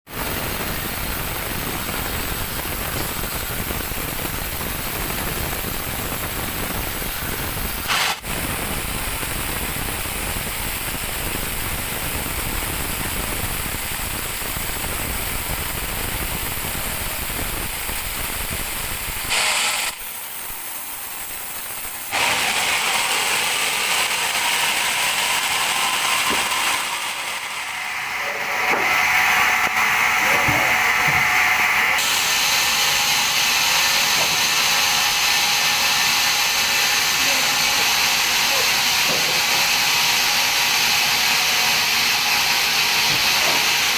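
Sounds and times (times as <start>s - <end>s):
band saw machinery running: 0.1s - 43.9s.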